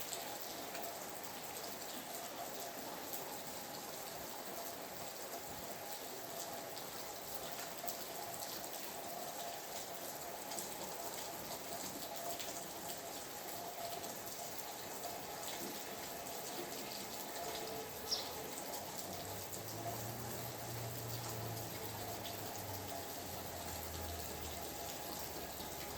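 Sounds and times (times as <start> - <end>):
drops ticking and dripping: 0.0 - 25.9
steady rain falling: 0.0 - 25.9.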